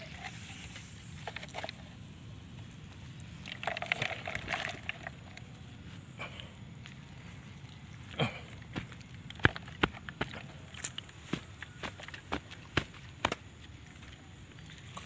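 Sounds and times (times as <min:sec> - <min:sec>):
hand scraping dry soil: 0:02.9 - 0:15.0.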